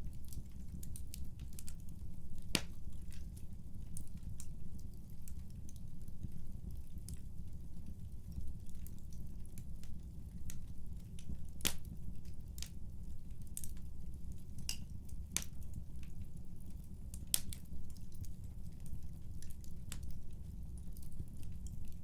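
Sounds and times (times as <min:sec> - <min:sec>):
wood fire popping in fireplace: 0:00.0 - 0:22.0.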